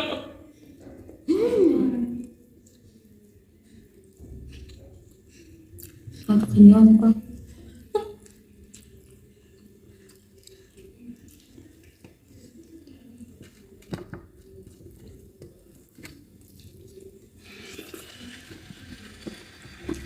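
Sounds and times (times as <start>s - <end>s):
soft chewing: 2.2s - 6.6s, 7.2s - 20.0s.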